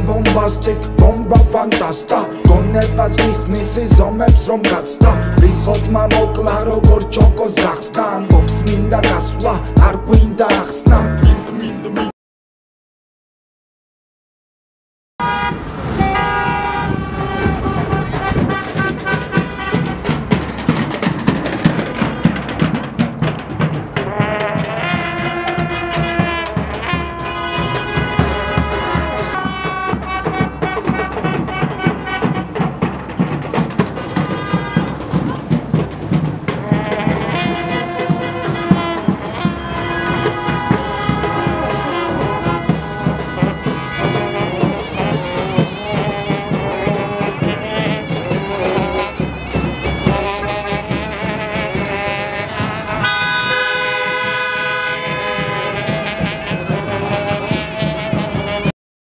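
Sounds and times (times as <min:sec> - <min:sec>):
instrumental music with horn melody: 0:00.0 - 0:12.1, 0:15.2 - 0:58.8.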